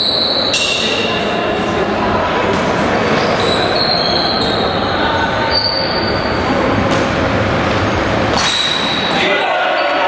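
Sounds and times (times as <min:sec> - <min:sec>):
shoes squeaking on hall floor: 0:00.0 - 0:01.6, 0:02.5 - 0:06.6, 0:07.6 - 0:10.0
sports hall noise: 0:00.0 - 0:10.0.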